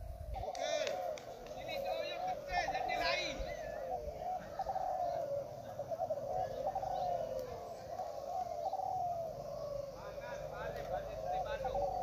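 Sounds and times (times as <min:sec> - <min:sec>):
doves cooing in chorus: 0:00.0 - 0:12.0.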